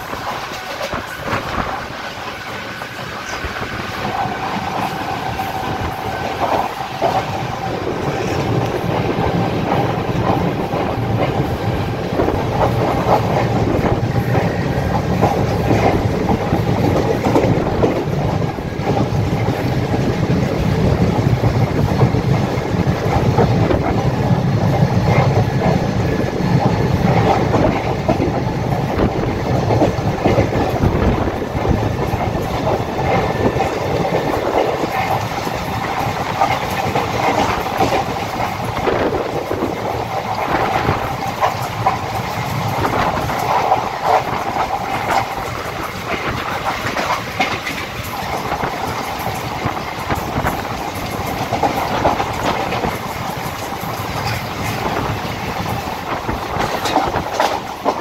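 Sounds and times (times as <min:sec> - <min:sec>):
clacks over rail joints: 0:00.0 - 0:58.0
train wheels rumbling on rails: 0:00.0 - 0:58.0.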